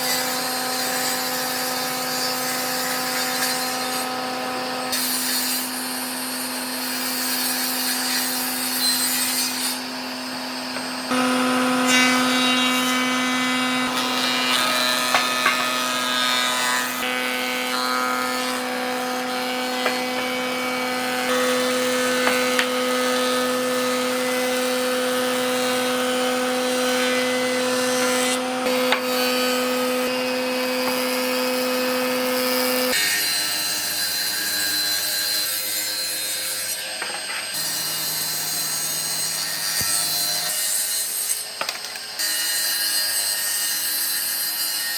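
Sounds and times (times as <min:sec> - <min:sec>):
power tool grinding wood: 0:00.0 - 0:44.9.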